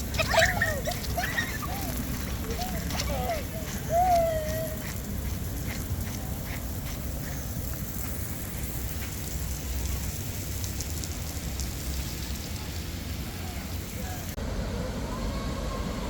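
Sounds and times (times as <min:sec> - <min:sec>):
spring water flowing and splashing: 0:00.0 - 0:14.4.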